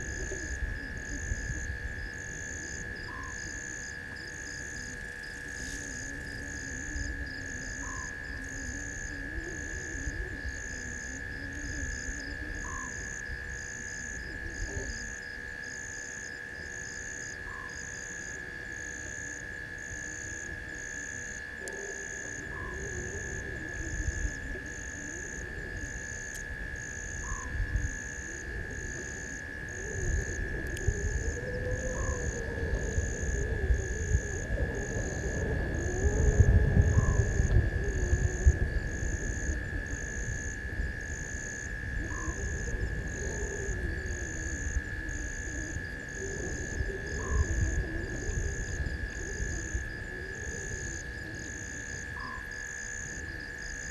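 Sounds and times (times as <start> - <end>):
high insect trill: 0.0 - 53.9.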